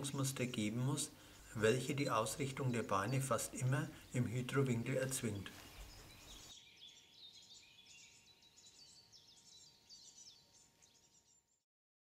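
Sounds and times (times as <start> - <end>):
faint birdsong: 0.0 - 11.6.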